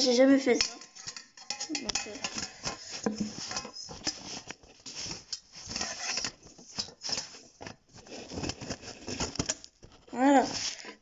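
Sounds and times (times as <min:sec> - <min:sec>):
metal cake tin scrapes and clicks: 0:00.6 - 0:09.7.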